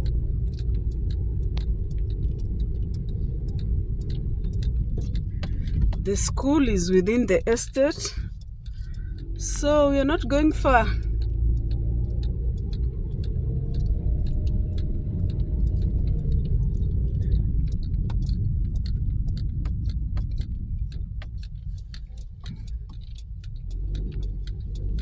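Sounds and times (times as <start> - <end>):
car rumble from inside: 0.0 - 25.0.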